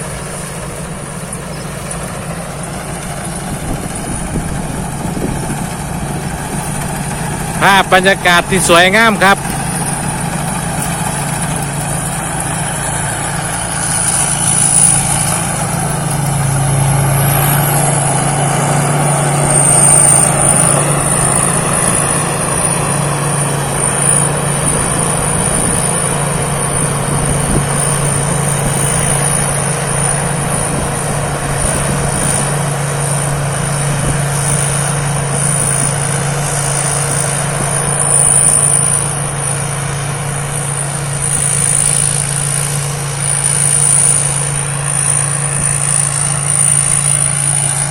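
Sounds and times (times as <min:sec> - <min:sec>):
combine harvester engine droning: 0:00.0 - 0:47.9
high-pitched whine: 0:00.0 - 0:47.9.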